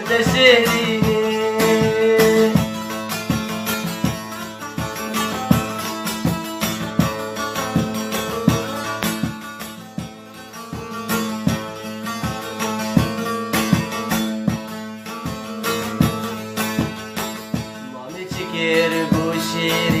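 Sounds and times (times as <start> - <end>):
plucked string instrument melody: 0.0 - 20.0
regular beat: 0.0 - 20.0.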